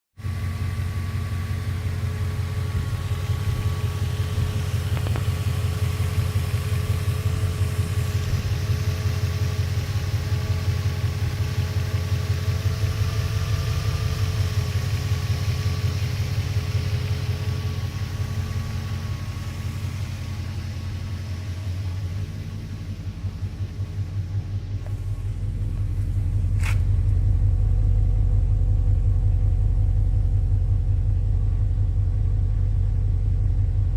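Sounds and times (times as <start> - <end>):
car engine idling: 0.2 - 33.9
faint steady whine: 0.3 - 33.9.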